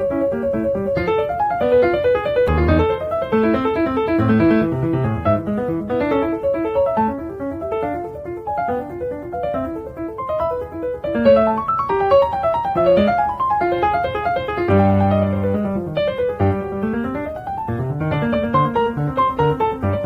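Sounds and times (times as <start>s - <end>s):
flowing piano music: 0.0s - 20.0s.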